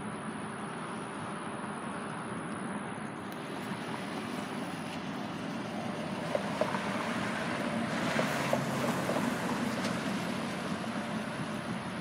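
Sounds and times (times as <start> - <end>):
cars driving past: 0.6 - 12.0.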